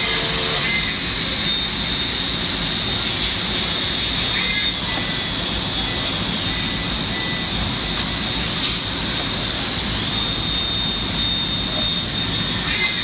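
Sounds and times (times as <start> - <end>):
lathe high whine: 0.0 - 13.0
mechanical hum and hiss: 0.0 - 13.0.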